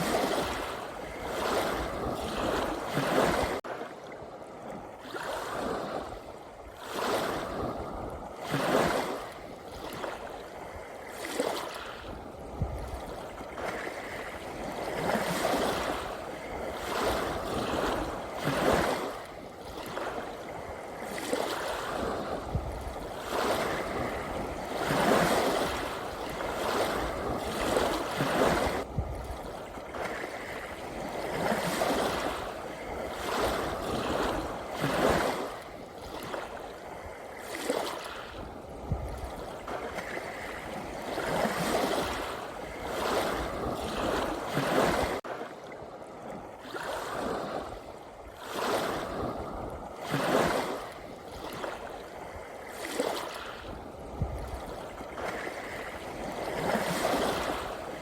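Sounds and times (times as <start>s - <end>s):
waves washing in and out: 0.0s - 58.0s.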